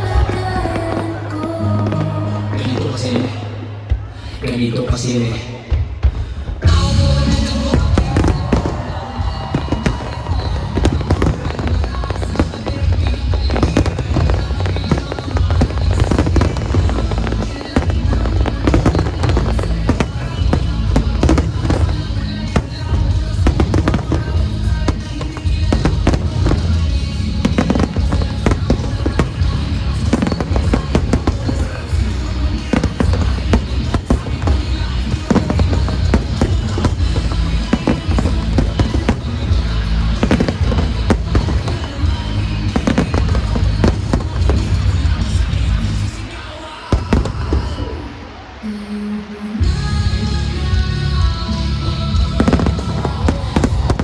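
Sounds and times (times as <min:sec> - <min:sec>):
loud music: 0:00.0 - 0:54.0
fireworks bursting and crackling: 0:05.8 - 0:54.0.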